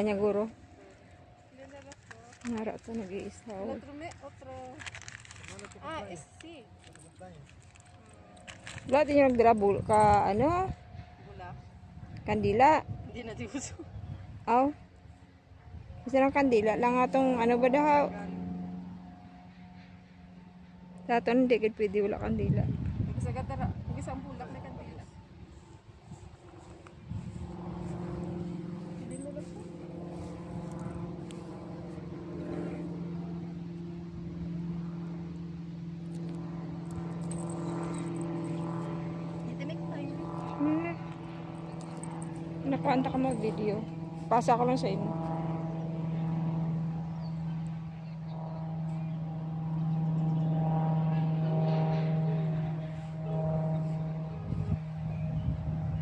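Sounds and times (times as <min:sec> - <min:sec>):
motor humming steadily: 0:00.0 - 0:56.0.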